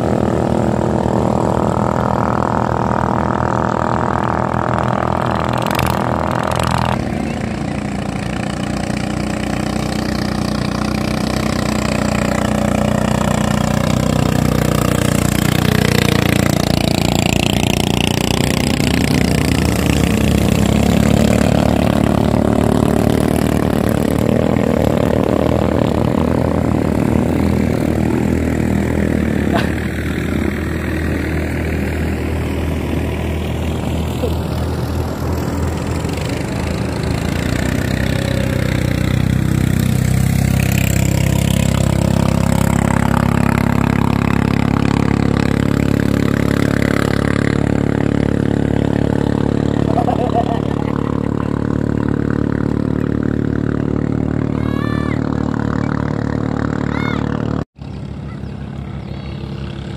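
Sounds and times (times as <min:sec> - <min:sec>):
boat engines droning: 0:00.0 - 0:59.9.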